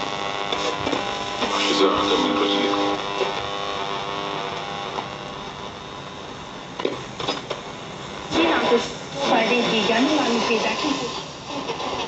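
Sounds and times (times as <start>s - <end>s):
radio crackles: 0.0s - 12.0s
radio static hiss: 0.0s - 12.0s.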